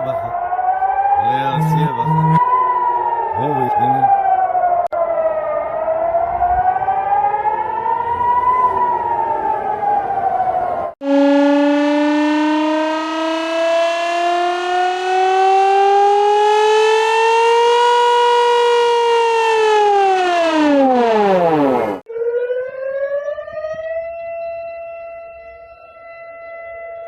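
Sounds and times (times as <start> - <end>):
reversed siren wail: 0.0 - 27.0
steady siren tone: 0.0 - 27.0.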